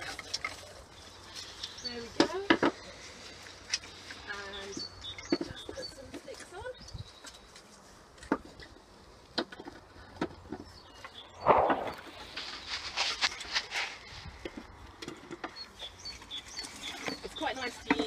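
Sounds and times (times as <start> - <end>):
twigs crackling and rustling: 0.0 - 10.0, 10.6 - 18.0.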